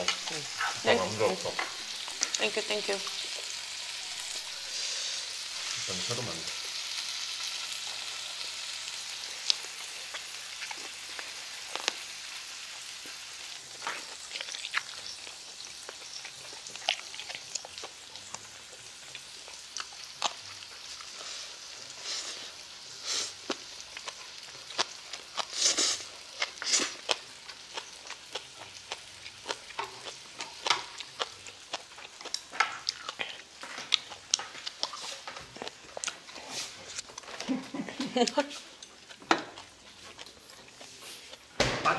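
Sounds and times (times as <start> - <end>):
meat sizzling on a griddle: 0.0 - 41.9.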